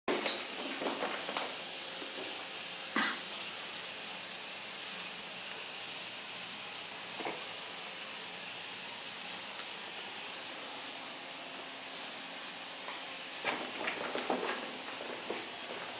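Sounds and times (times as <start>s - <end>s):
steady hiss: 0.1s - 15.9s.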